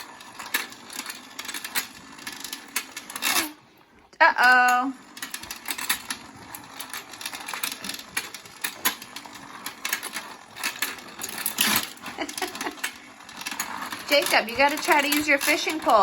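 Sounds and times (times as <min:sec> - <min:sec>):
toy motor clattering: 0:00.0 - 0:16.0.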